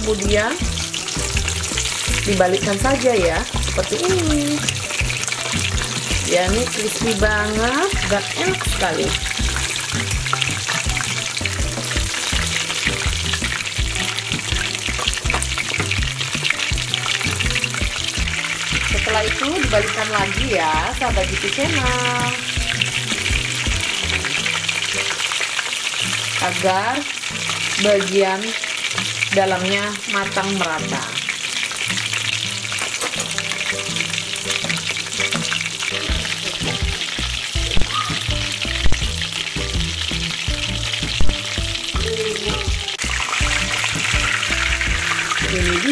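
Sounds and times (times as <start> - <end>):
chicken deep-frying in oil: 0.0 - 45.9.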